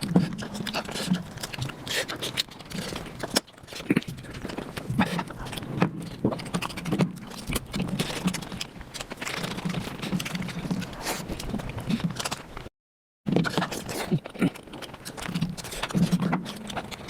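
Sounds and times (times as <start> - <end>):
sped-up chewing and mouth smacks: 0.0 - 12.5, 13.4 - 17.0.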